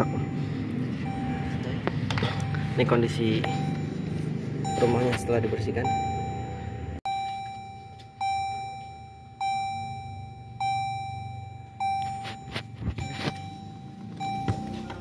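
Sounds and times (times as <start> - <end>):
car warning chime dinging: 0.0 - 15.0.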